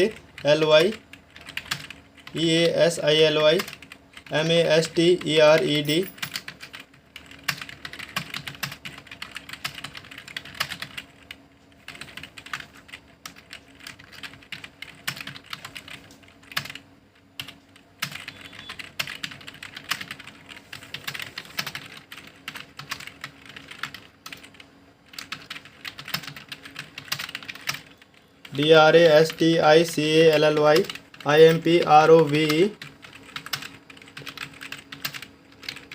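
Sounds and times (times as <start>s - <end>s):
fast typing on keyboard: 0.0s - 35.9s.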